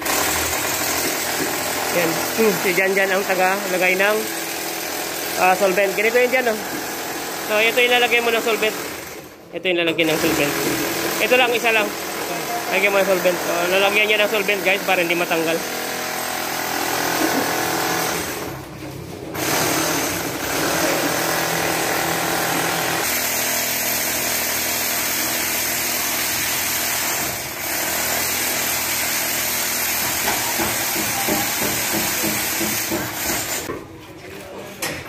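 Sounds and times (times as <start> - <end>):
power tool running: 0.0 - 33.7.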